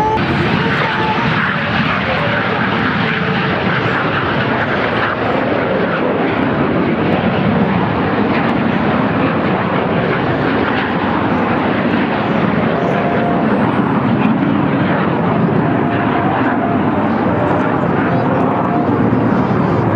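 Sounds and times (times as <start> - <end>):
plane engines flying by: 0.0 - 19.9.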